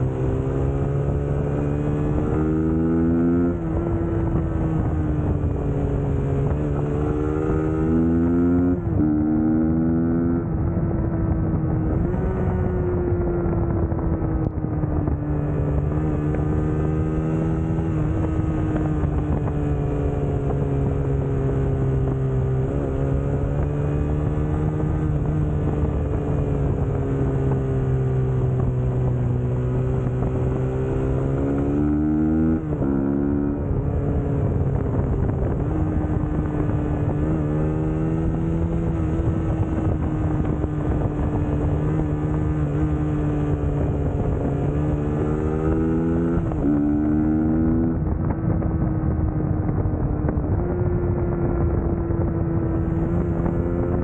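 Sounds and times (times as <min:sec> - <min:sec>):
motorcycle engine changing gears: 0:00.0 - 0:54.0.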